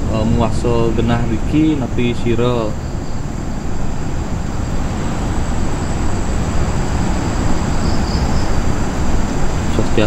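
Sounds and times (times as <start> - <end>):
insect trill: 0.0 - 10.0
low rumbling noise: 0.0 - 10.0.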